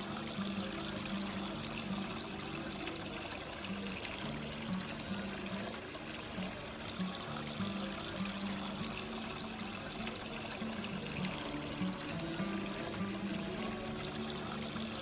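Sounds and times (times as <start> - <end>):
background music held notes: 0.0 - 15.0
running water trickling: 0.0 - 15.0.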